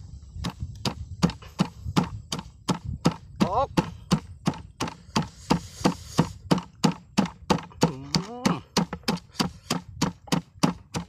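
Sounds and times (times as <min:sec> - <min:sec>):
pestle pounding in stone mortar: 0:00.3 - 0:11.0.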